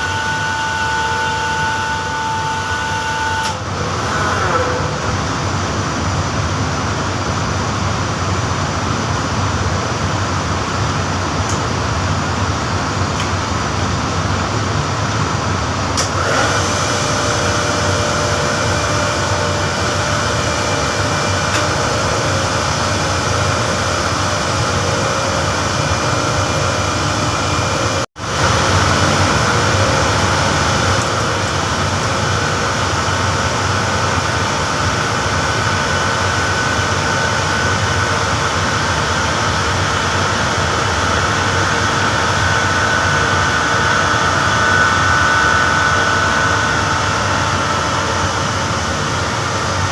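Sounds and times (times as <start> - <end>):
machinery drone with whining tones: 0.0 - 49.9.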